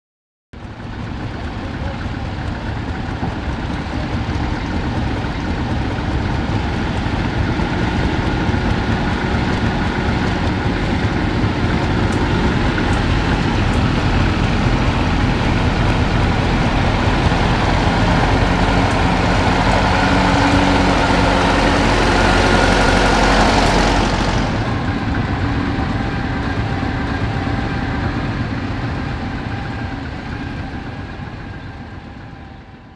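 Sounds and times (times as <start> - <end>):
tractor engine running: 0.6 - 32.9.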